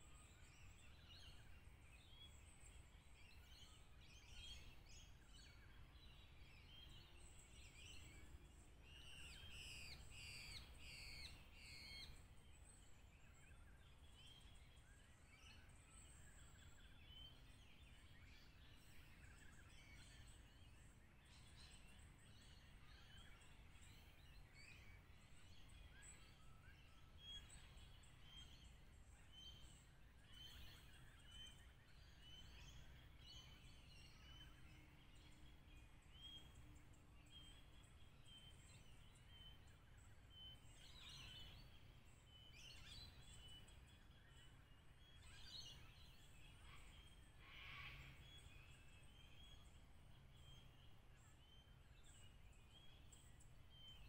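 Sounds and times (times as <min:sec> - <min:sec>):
bird chirps: 0:00.2 - 0:54.0.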